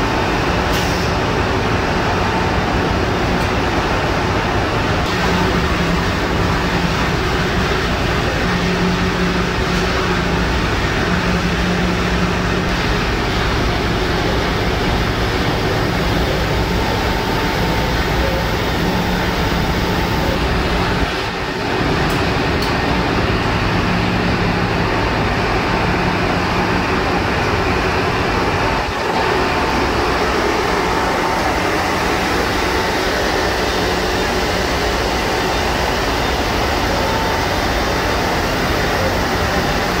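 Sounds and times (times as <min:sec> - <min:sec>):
diesel machinery running: 0:00.0 - 0:40.0
ventilation running: 0:00.0 - 0:40.0.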